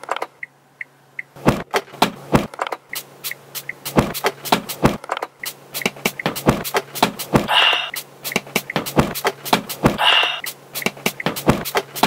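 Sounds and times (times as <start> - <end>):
flasher ticking rhythmic clicks: 0.0 - 1.4, 2.6 - 4.8, 5.4 - 12.0.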